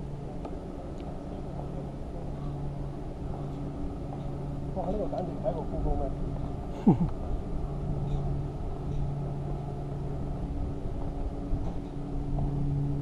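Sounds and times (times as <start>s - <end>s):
low mechanical hum with held tones: 0.0s - 13.0s.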